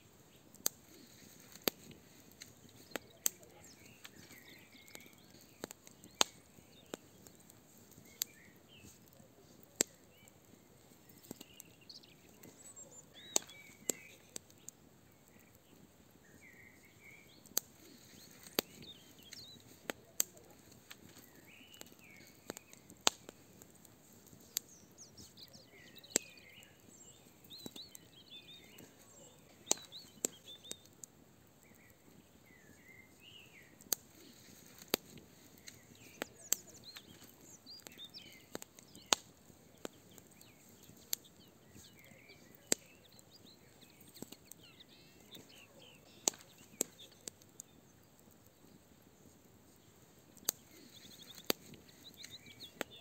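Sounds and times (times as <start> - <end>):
fire crackling and popping: 0.0 - 53.0
birds chirping and singing: 0.8 - 23.5, 24.3 - 30.9, 31.6 - 53.0.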